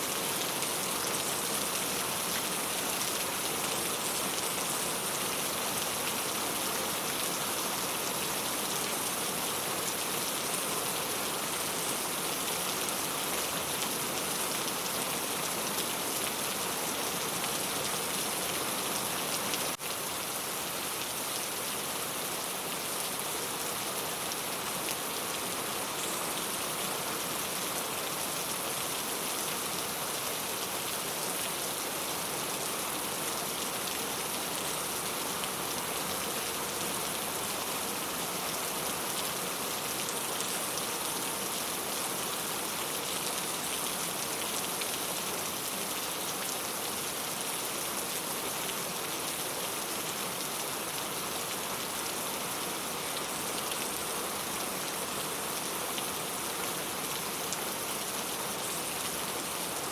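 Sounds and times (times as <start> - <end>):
rain on a tile roof: 0.0 - 59.9.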